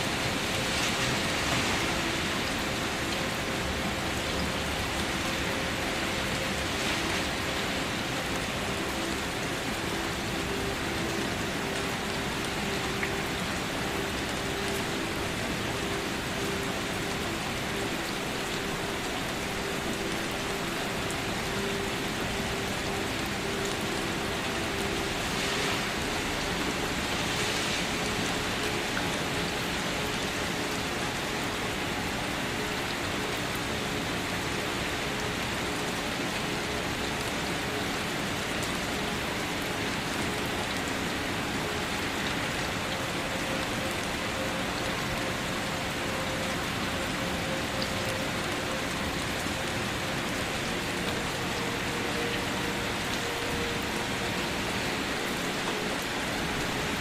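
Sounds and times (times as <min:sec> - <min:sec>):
rain falling on surfaces: 0:00.0 - 0:57.0.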